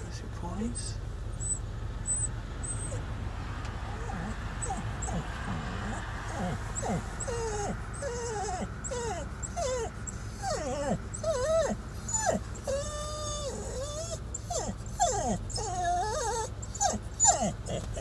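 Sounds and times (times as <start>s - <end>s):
small dog whining: 1.4s - 3.0s, 3.9s - 18.0s.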